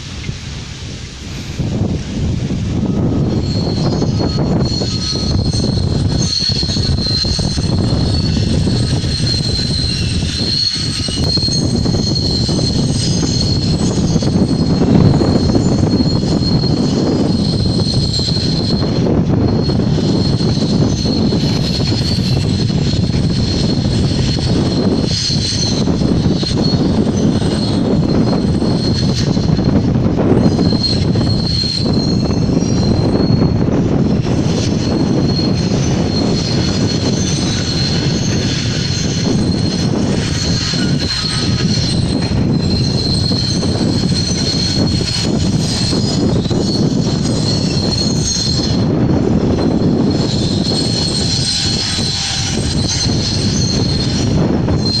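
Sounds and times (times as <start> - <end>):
high-pitched squeal: 0.0 - 55.0.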